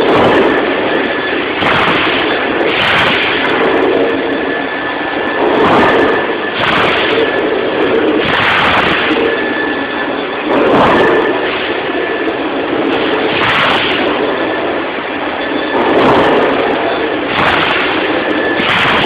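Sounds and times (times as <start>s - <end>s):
band saw cutting metal: 0.0s - 19.0s.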